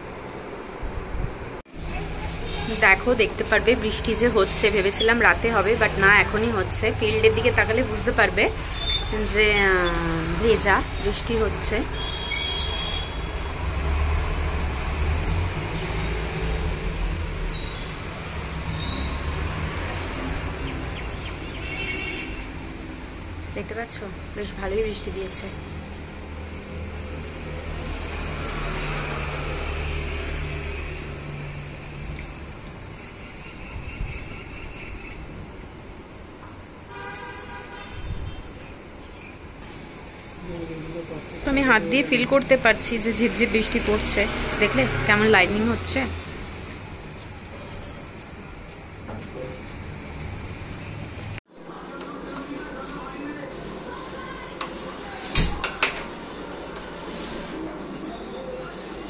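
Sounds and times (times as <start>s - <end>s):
insects chirping: 2.6s - 51.4s.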